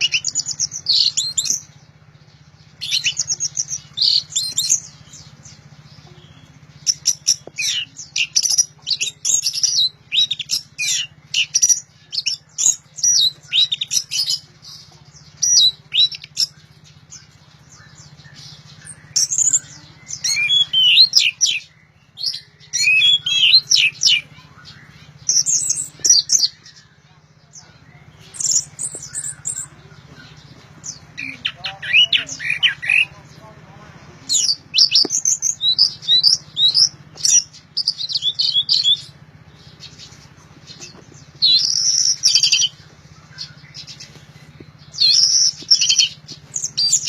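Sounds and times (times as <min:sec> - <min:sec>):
steady low hum: 0:00.0 - 0:47.0
thrush singing: 0:00.0 - 0:47.0.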